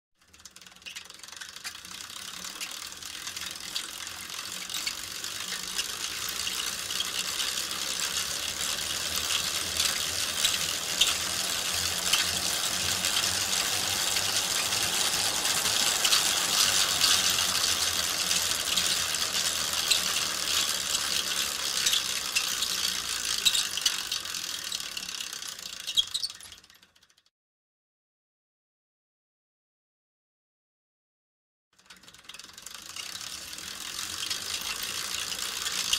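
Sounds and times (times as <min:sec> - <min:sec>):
bicycle chain ticking: 0:00.2 - 0:27.3, 0:31.8 - 0:35.9.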